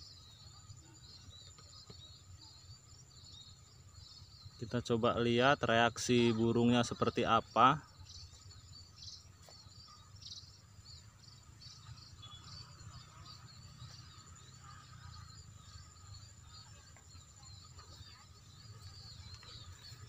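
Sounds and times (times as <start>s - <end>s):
birds chirping: 0.0s - 20.0s
high insect drone: 0.0s - 20.0s.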